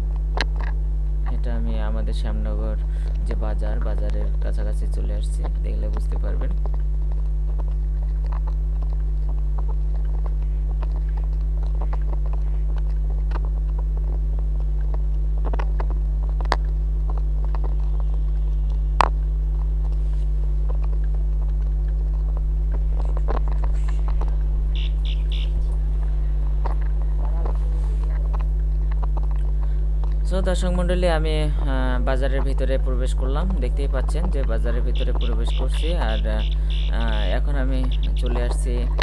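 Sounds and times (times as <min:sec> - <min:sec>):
bicycle rolling rumble: 0:00.0 - 0:39.0.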